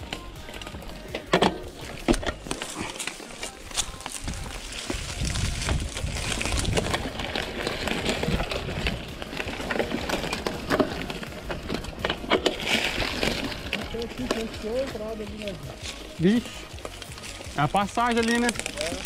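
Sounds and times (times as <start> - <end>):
bike tyres and frame rattling: 0.0 - 19.0.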